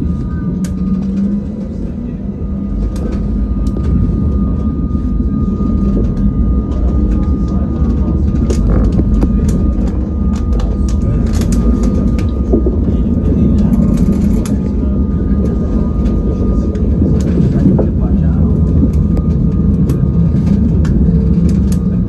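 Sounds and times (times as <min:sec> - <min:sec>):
faint steady whine: 0:00.0 - 0:22.0
tram wheels rumbling on rail: 0:00.0 - 0:22.0.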